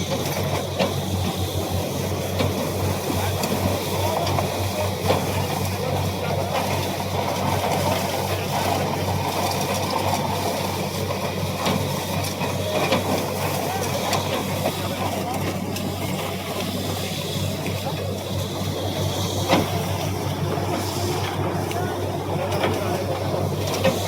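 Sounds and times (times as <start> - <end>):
drilling rig engine drone: 0.0 - 24.0.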